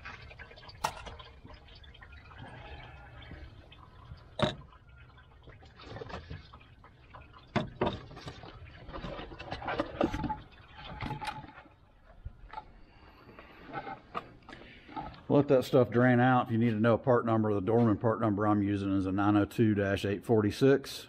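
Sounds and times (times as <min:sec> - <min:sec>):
coolant draining and dripping: 0:00.0 - 0:20.0.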